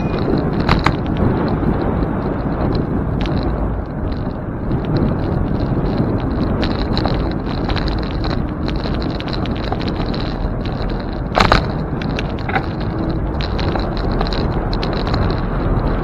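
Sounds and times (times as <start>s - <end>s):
bicycle tyre and road noise: 0.0s - 16.0s
small rattles and clicks: 0.0s - 16.0s
wind rumbling on microphone: 0.0s - 16.0s.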